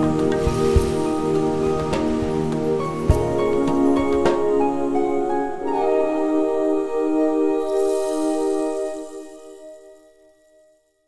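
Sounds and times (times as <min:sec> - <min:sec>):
calm held chord music: 0:00.0 - 0:10.7.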